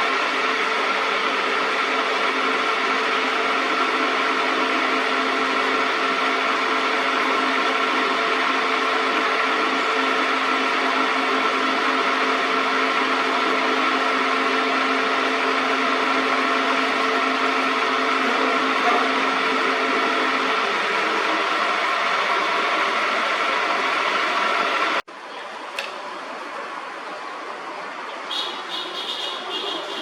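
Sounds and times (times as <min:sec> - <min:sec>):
metal lathe whirring hum: 0:00.0 - 0:25.0.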